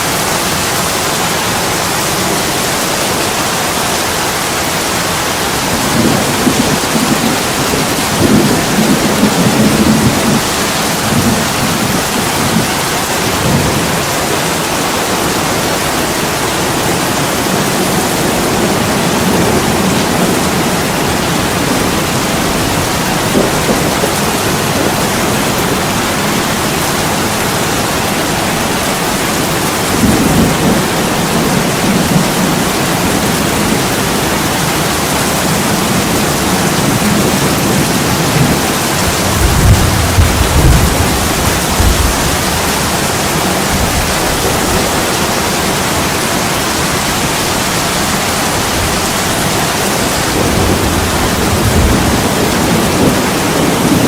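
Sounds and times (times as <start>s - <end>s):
heavy rain on window glass: 0.0s - 54.0s.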